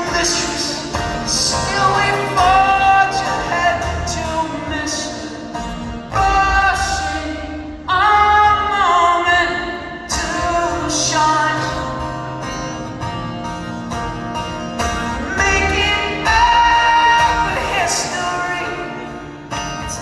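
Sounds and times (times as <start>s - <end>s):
guitar accompaniment: 0.0s - 20.0s.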